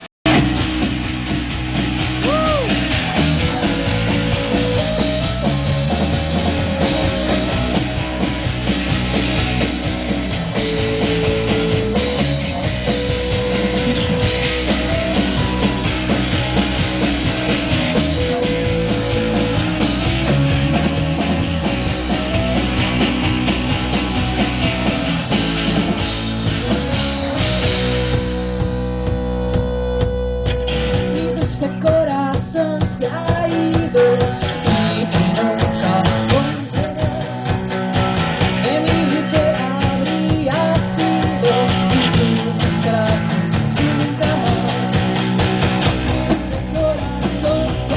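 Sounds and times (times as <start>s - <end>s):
drum kit steady beat: 0.0s - 47.9s
electric guitars: 0.0s - 47.9s.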